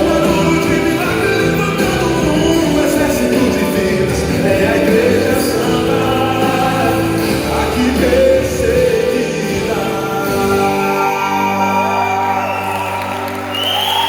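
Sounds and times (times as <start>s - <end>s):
full band playing: 0.0s - 14.0s
gospel singing with choir: 0.0s - 14.0s.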